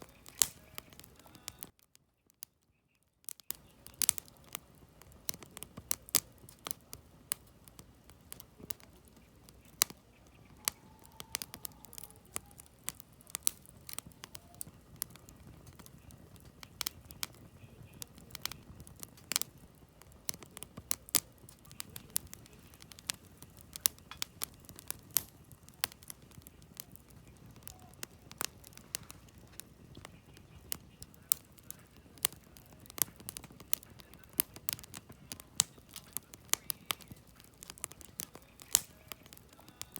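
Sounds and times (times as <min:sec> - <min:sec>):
low rush of fire: 0:00.0 - 0:01.8, 0:03.3 - 0:39.9
campfire crackling and popping: 0:00.0 - 0:39.9.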